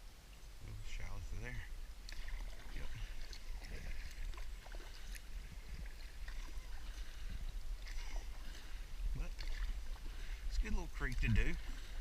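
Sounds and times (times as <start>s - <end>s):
paddle splashing in water: 1.8s - 12.0s.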